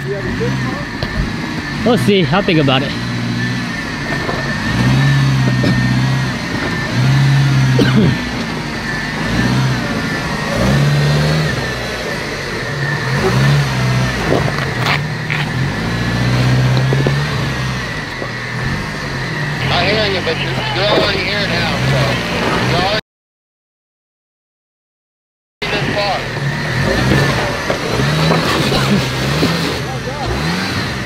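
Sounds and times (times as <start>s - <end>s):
engine revving in bursts: 0.0s - 23.0s, 25.6s - 31.0s
steady high whine: 0.0s - 23.0s, 25.6s - 30.2s.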